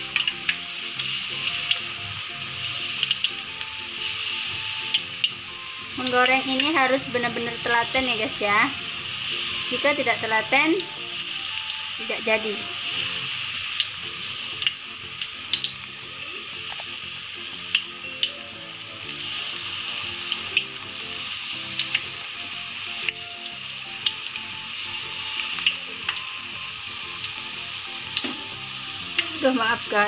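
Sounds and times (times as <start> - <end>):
oil sizzling: 0.0 - 30.0.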